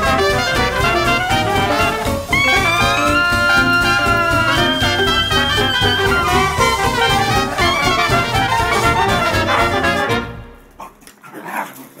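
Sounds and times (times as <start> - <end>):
swing music with brass: 0.0 - 11.0.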